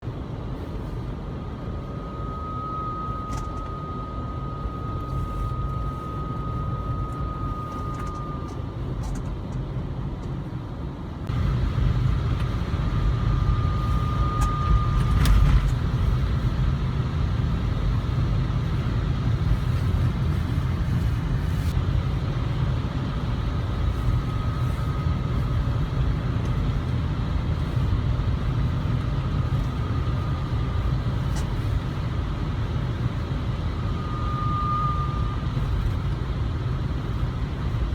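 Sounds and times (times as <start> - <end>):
car engine and road rumble: 0.0 - 37.9
transmission whine: 0.0 - 37.9.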